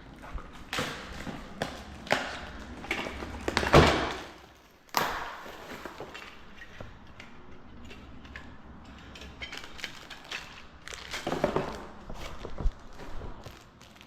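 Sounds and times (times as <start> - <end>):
objects knocking and thudding: 0.3 - 14.0.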